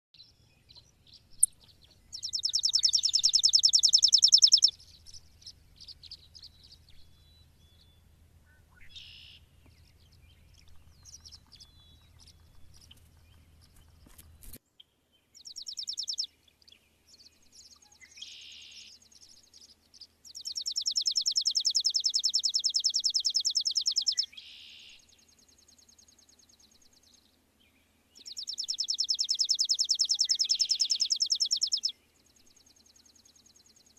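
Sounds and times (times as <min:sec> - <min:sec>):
faint chirps: 0:00.2 - 0:27.4, 0:28.2 - 0:33.9.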